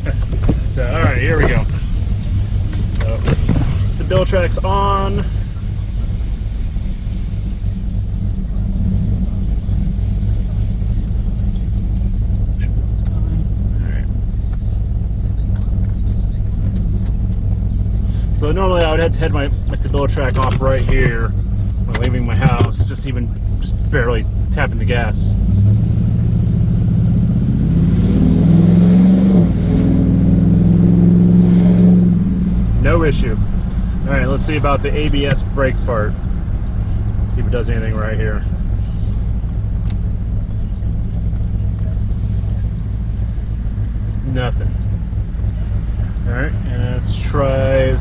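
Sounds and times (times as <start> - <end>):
engine low rumble: 0.0 - 48.0.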